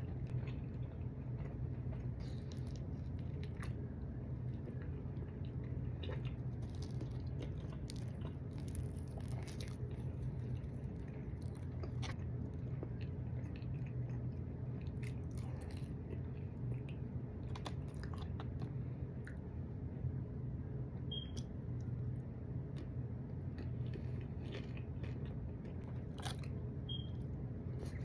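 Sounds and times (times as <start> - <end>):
chewing and biting food: 0.0 - 19.5, 22.7 - 28.0
low hum: 0.0 - 28.0.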